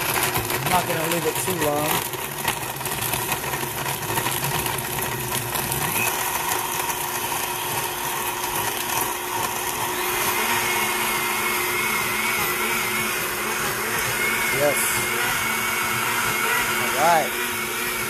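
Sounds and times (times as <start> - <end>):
blender motor blending ice: 0.0 - 18.0.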